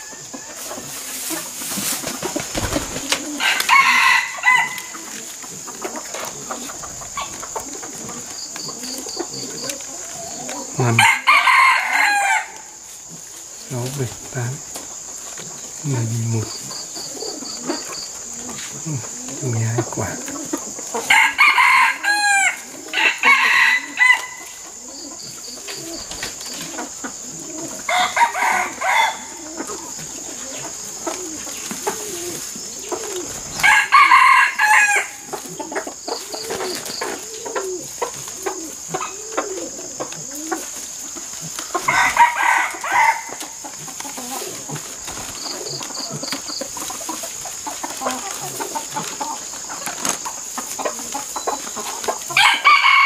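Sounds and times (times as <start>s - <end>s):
hens clucking: 0.0s - 53.0s
roosters crowing: 0.0s - 53.0s.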